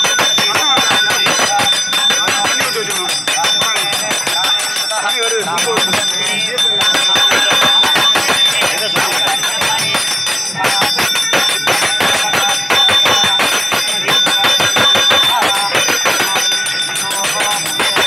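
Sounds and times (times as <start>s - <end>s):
faint voices: 0.0s - 18.0s
hand bell ringing rapidly: 0.0s - 18.0s.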